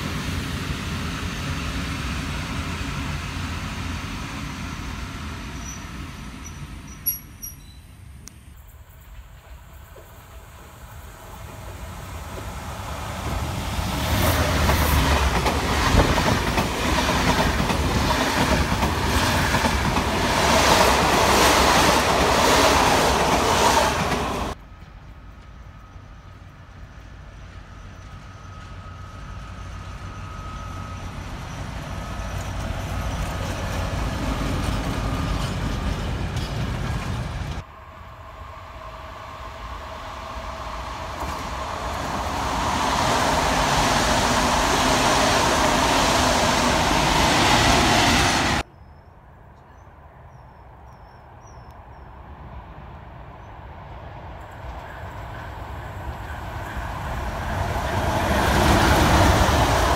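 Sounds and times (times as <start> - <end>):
locomotive approaching: 0.0 - 48.7, 51.7 - 59.9
passenger coaches rolling past: 0.0 - 48.7, 49.4 - 59.9.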